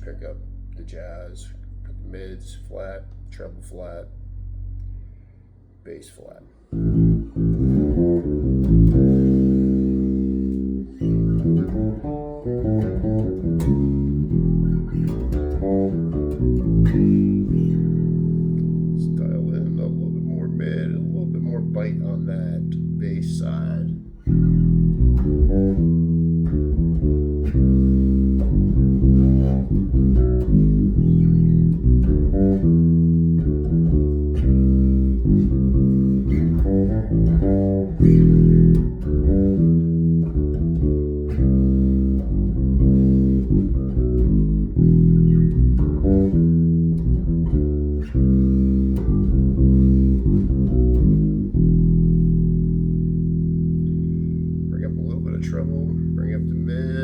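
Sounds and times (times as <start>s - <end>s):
electric bass guitar notes: 0.0s - 57.0s.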